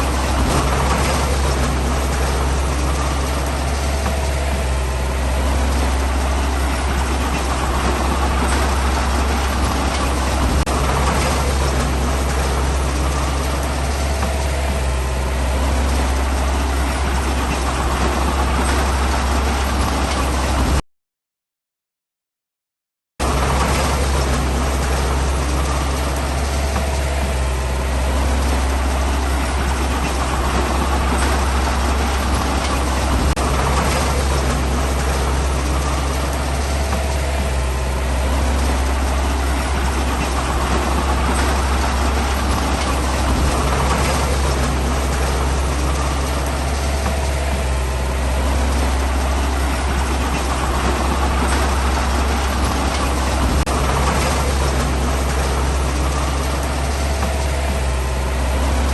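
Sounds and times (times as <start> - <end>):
heavy diesel engine droning: 0.0 - 20.8, 23.2 - 58.9.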